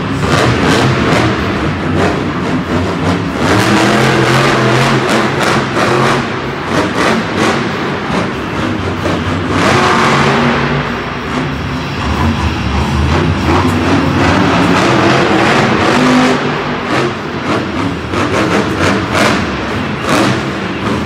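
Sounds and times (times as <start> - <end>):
monster truck engine revving: 0.0 - 21.0.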